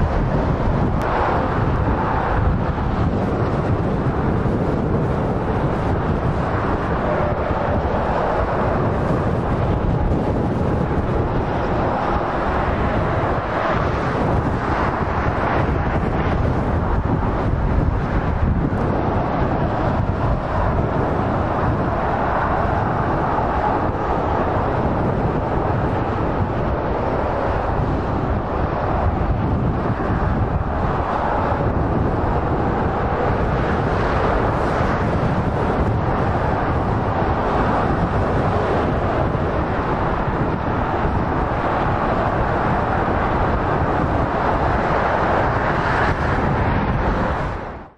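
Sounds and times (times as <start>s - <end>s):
motorway traffic rush: 0.0s - 47.9s.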